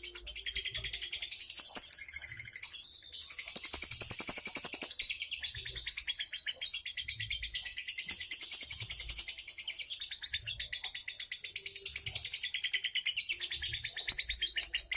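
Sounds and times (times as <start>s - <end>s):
songbird singing: 0.0s - 14.9s.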